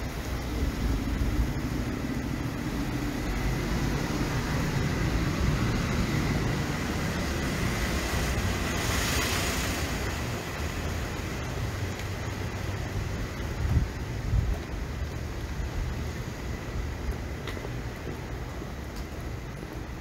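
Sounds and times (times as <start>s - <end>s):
low rumble of traffic: 0.0s - 20.0s
traffic hiss: 0.0s - 20.0s.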